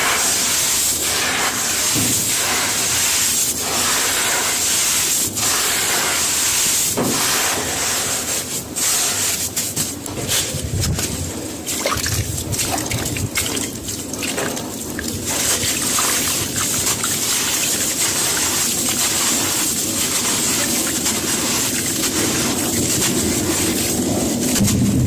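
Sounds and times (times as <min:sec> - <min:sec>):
water gushing: 0:00.0 - 0:25.0.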